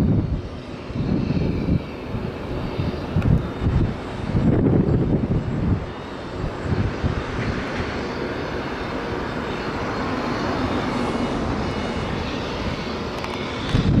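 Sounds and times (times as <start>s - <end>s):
jet engine rush with whine: 0.0s - 14.0s
low rumbling gusts: 0.0s - 14.0s.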